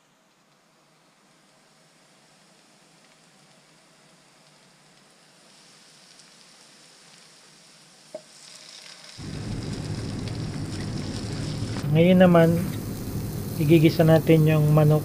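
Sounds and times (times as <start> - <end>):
oil sizzling in frying pan: 1.7 - 15.0.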